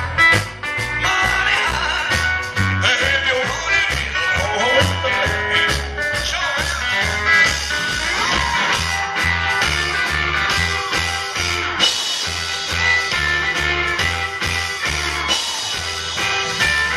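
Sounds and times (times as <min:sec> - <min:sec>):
bass guitar notes: 0:00.0 - 0:16.9
drums: 0:00.0 - 0:16.9
electric guitar: 0:00.0 - 0:16.9.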